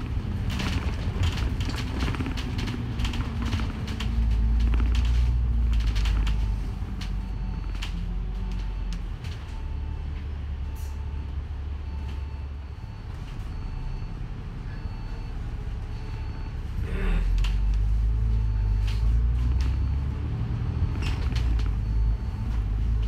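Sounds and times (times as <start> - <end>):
bus engine rumble: 0.0 - 23.0
bus interior creaks and rattles: 0.0 - 23.0.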